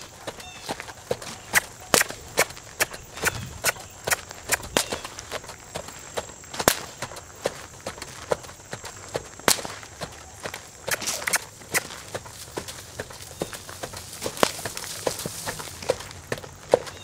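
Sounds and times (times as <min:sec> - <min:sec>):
horse hoofbeats trotting on dirt: 0:00.0 - 0:17.0.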